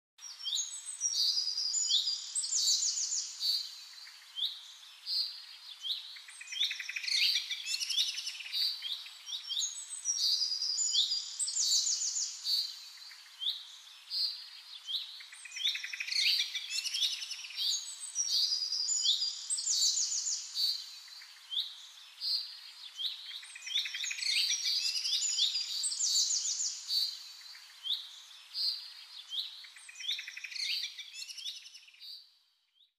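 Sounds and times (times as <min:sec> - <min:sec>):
songbirds chirping and singing: 0:00.2 - 0:32.3.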